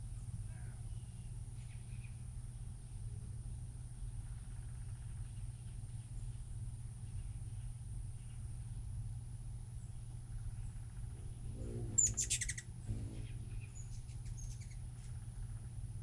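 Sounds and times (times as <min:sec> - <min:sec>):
hummingbird chip notes: 0:00.0 - 0:16.0
hummingbird wing buzz: 0:00.0 - 0:16.0.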